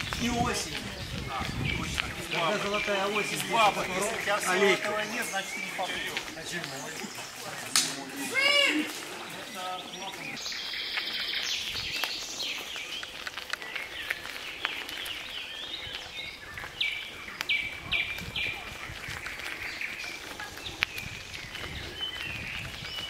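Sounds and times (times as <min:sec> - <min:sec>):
outdoor background noise: 0:00.0 - 0:23.0
songbirds singing and calling: 0:00.0 - 0:23.0.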